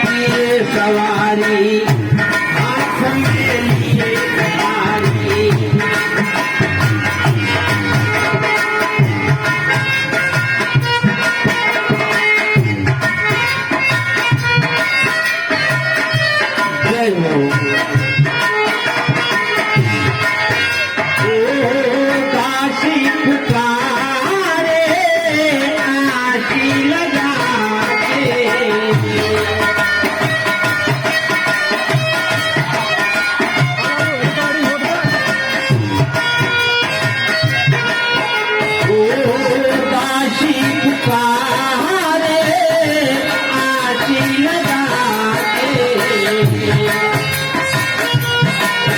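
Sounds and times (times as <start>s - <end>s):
hand drum steady rhythm: 0.0s - 48.9s
reedy melody: 0.0s - 48.9s.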